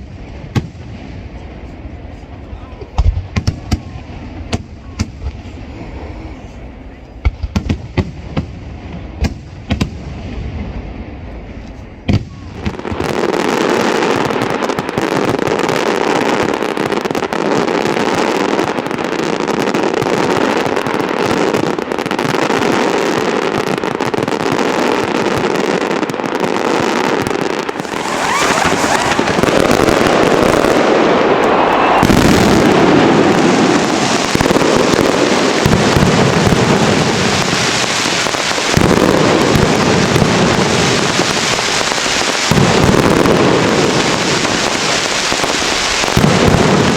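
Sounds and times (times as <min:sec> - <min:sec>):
fireworks crackling and banging: 0:00.0 - 0:46.9.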